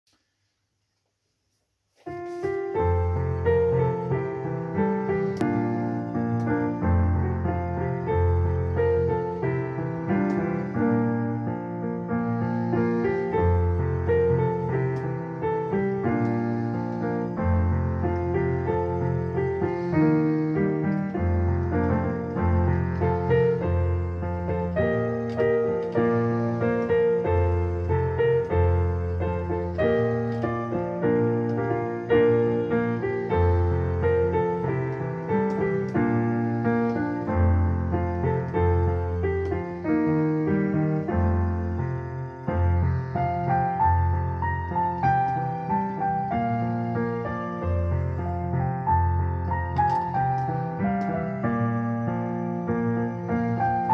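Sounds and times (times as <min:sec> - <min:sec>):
digital piano playing chords: 0:02.1 - 0:53.9.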